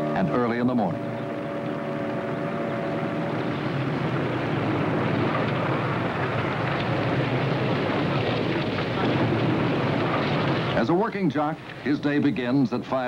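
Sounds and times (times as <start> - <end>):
car engine running: 0.0 - 12.2
road noise: 0.0 - 13.0.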